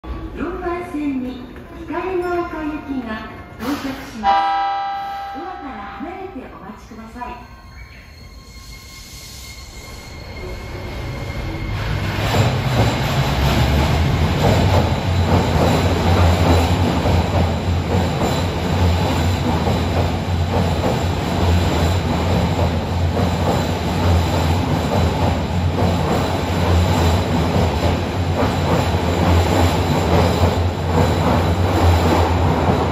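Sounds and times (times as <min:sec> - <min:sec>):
subway train rumbling: 0:00.0 - 0:32.9.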